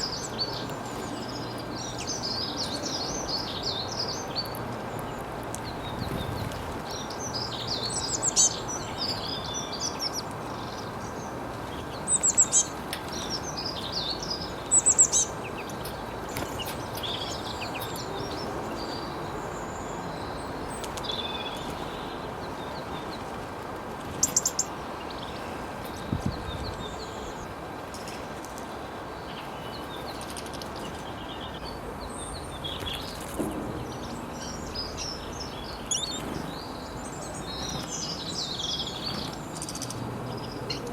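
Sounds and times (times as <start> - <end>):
birds chirping and trilling: 0.0 - 23.4, 24.1 - 28.1, 28.8 - 40.9
outdoor background hiss: 0.0 - 40.9.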